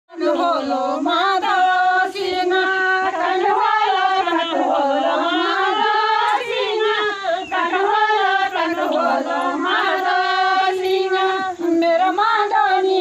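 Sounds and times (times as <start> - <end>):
women singing in unison: 0.1 - 13.0.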